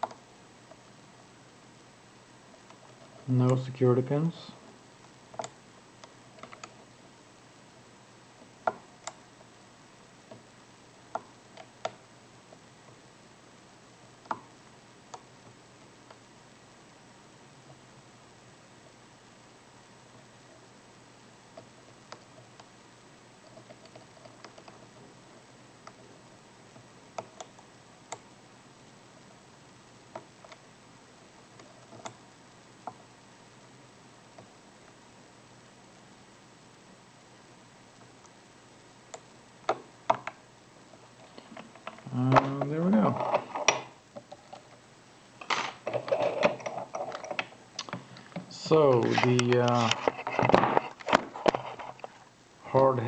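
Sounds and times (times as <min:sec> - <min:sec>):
faint steady hiss: 0:00.0 - 0:53.0.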